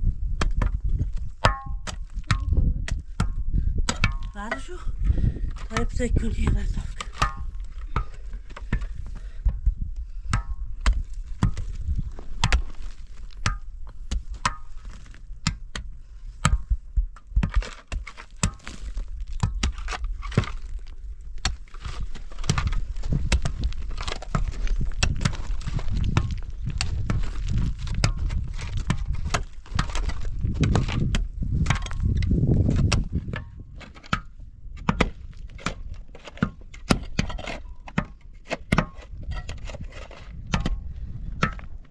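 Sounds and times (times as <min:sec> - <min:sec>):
low rumble and scraping: 0:00.0 - 0:41.9
sharp knocks and cracks: 0:00.4 - 0:04.4, 0:10.3 - 0:40.8.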